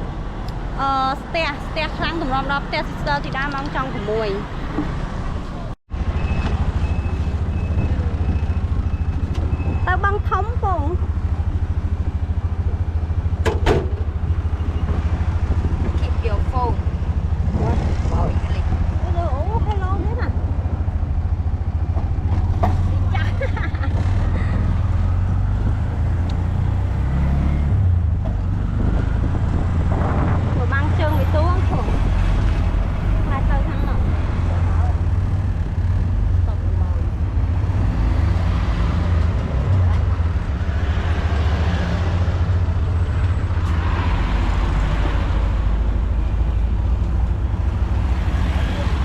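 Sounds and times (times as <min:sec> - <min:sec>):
road and wind noise: 0:00.0 - 0:49.0
vehicle rumble: 0:00.0 - 0:49.0.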